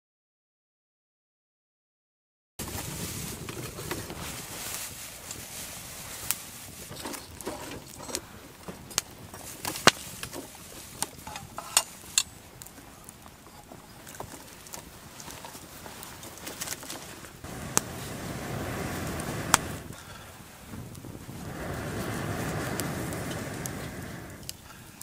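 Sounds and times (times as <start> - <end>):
wood fire crackling: 2.6 - 25.0.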